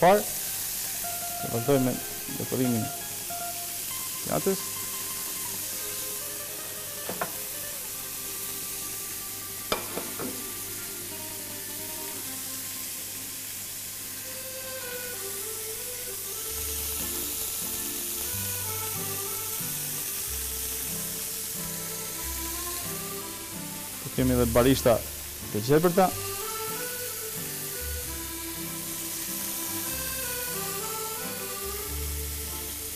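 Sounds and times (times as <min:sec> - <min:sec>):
meat sizzling on a grill: 0:00.0 - 0:32.9.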